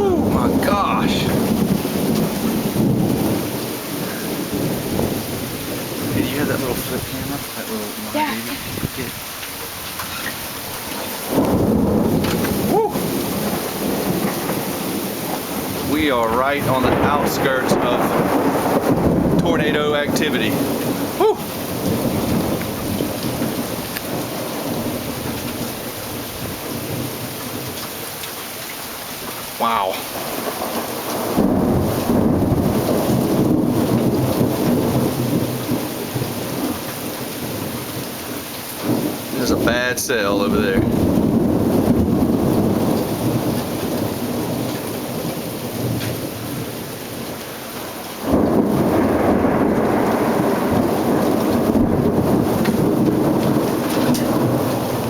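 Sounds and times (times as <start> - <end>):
rolling thunder rumble: 0.0 - 28.1, 29.2 - 55.0
rain falling: 0.0 - 55.0.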